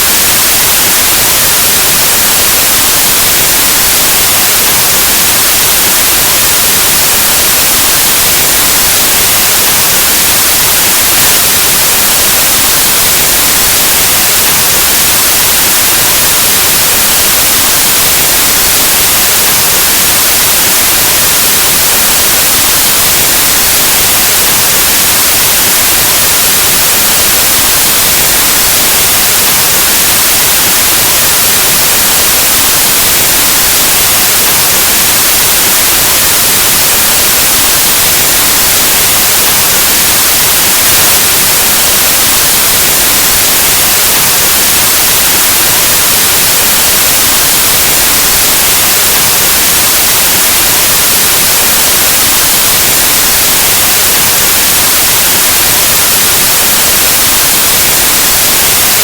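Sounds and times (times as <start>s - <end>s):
white noise static hiss: 0.0s - 59.0s.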